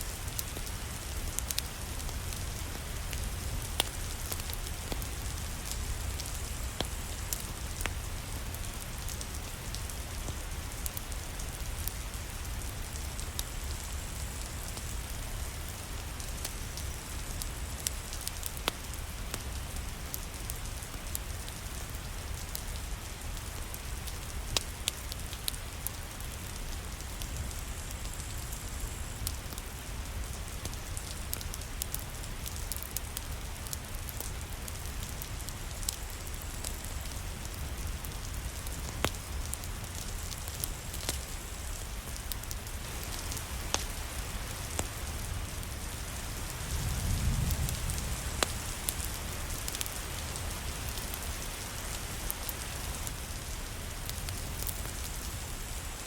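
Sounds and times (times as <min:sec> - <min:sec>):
steady rain: 0:00.0 - 0:56.0
wood fire crackles: 0:00.0 - 0:56.0.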